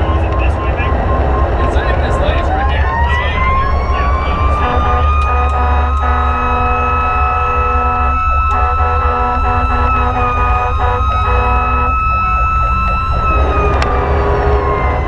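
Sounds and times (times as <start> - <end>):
fire engine siren: 0.0 - 15.0
truck engine drone: 0.0 - 15.0.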